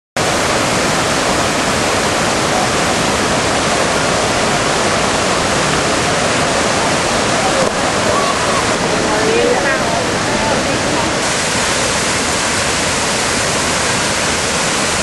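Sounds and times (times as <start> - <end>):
waterfall rushing into pool: 0.2 - 15.0.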